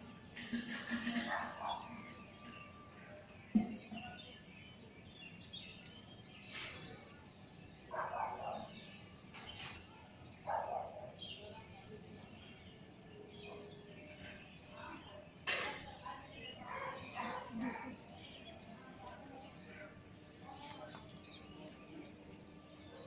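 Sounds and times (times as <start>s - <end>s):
outdoor background noise: 0.0s - 23.0s
small birds chirping: 0.0s - 23.0s.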